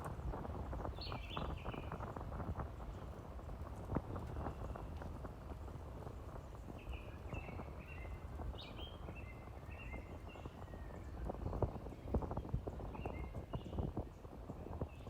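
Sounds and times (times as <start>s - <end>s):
bicycle rolling: 0.0s - 15.0s
horse hooves clip-clopping on road: 0.0s - 15.0s
wind rumble: 0.0s - 15.0s.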